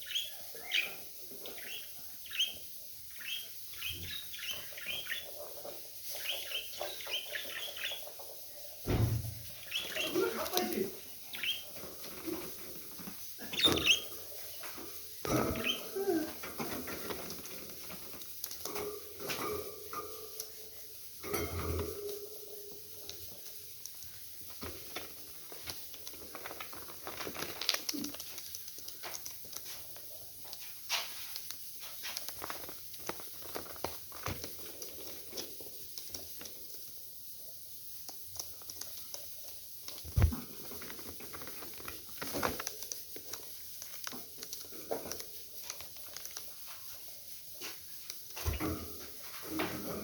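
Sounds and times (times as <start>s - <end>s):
birds clicking and tapping: 0.0s - 50.0s.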